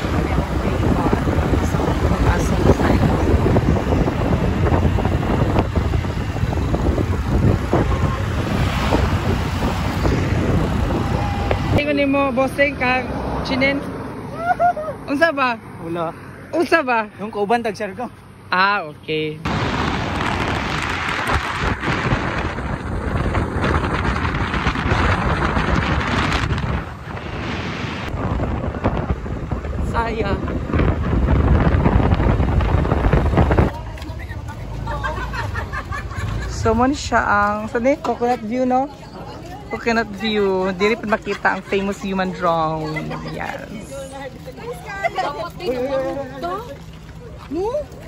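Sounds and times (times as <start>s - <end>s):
wind buffeting microphone: 0.0s - 14.9s, 19.5s - 48.0s.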